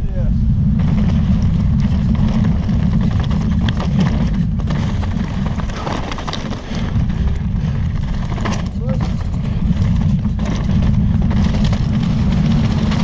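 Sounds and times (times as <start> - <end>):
wind and tyre rumble: 0.0 - 13.0
bike frame and suspension rattles: 0.4 - 13.0.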